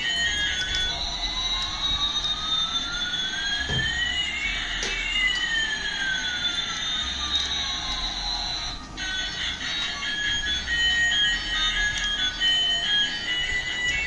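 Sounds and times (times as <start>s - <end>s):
rising and falling whining tones: 0.0s - 14.0s.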